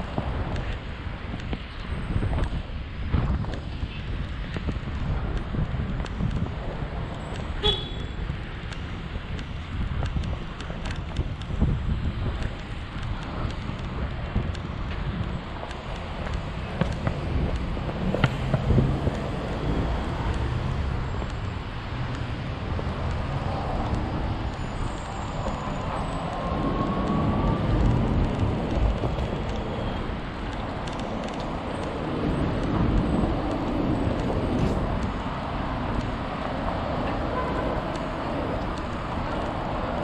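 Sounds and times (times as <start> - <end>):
passing car traffic: 0.0 - 40.0
scooter wheels rumbling on asphalt: 0.0 - 40.0.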